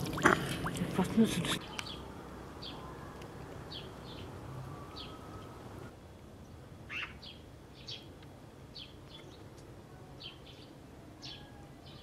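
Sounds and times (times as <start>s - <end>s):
faint outdoor background: 0.0s - 12.0s
small birds chirping: 0.7s - 5.6s, 6.4s - 12.0s.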